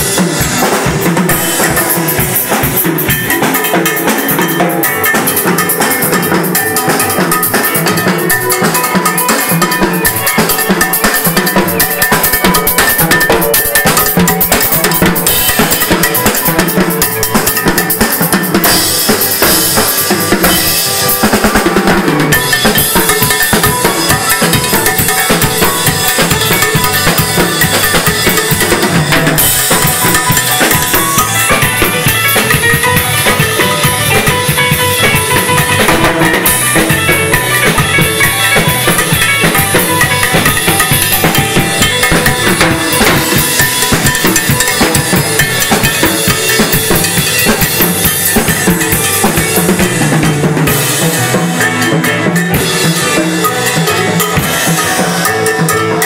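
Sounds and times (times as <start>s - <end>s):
band playing latin music: 0.0s - 56.0s
drum kit beat: 0.0s - 56.0s.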